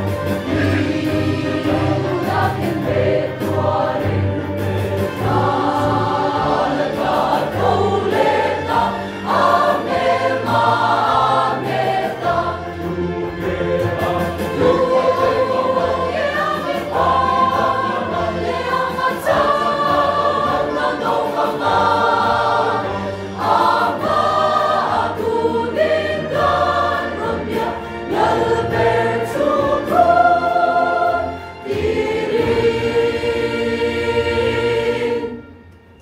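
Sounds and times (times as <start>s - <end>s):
choir singing a hymn: 0.0s - 36.0s.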